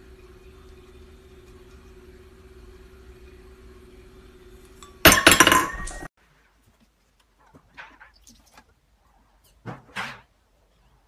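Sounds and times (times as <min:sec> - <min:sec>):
faint steady hum: 0:00.0 - 0:09.6.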